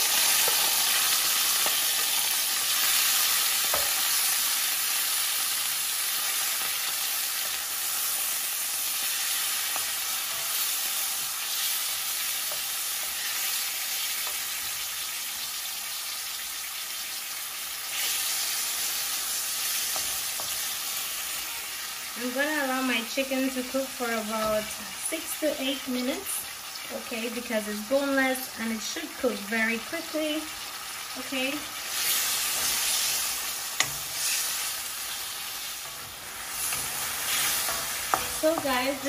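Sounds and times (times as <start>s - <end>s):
chicken sizzling in hot oil: 0.0s - 39.0s.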